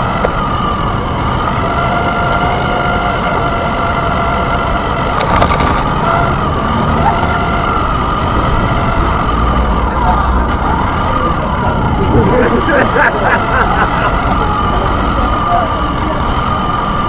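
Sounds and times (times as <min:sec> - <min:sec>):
electric motor whine: 0:00.0 - 0:17.0
street noise: 0:00.0 - 0:17.0
tyres rolling on pavement: 0:00.0 - 0:17.0.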